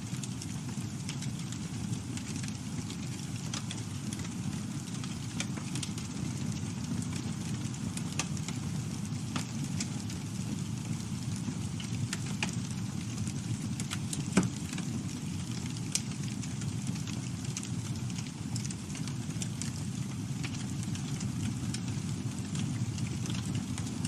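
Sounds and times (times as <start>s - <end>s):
campfire burning: 0.0s - 24.0s
crackles and pops of burning wood: 0.0s - 24.0s.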